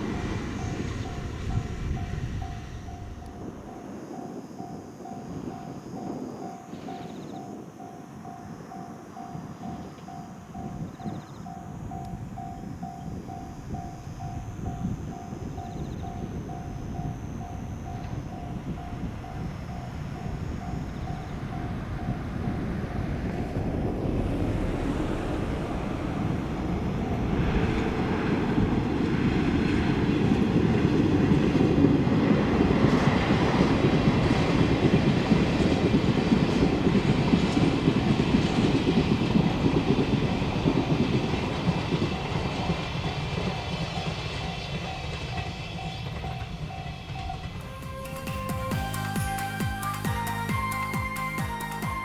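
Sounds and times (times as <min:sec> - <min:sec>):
crossing warning bell ringing: 0:00.0 - 0:52.0
train rumble and wheel clatter: 0:00.0 - 0:52.0.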